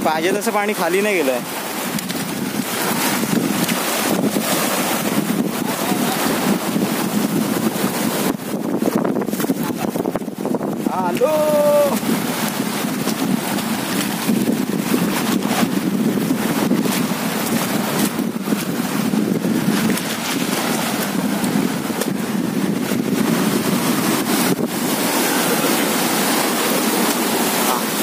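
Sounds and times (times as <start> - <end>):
sea waves against rocks: 0.0 - 28.0
wind buffeting microphone: 0.0 - 28.0.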